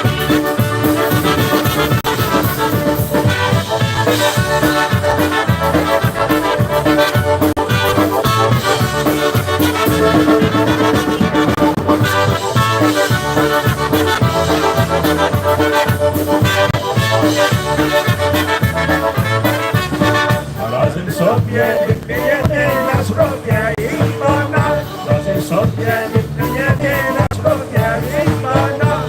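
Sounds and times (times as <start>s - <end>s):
accordion: 0.0s - 29.0s
brass playing: 0.0s - 29.0s
steady bass beat: 0.0s - 29.0s.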